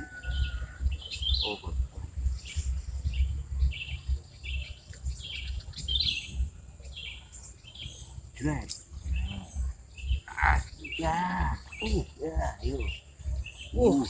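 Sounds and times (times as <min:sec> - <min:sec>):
low rumble: 0:00.0 - 0:14.0
small birds chirping: 0:00.0 - 0:14.0.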